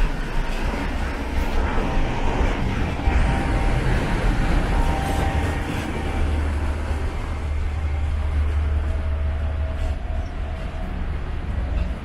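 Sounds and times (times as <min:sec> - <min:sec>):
faint whine: 0:00.0 - 0:12.0
train carriage rumble: 0:00.0 - 0:12.0.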